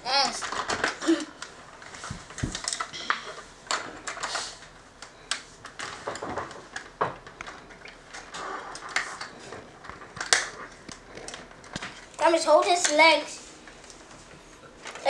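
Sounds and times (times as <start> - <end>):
plastic toys clattering: 0.1 - 15.0.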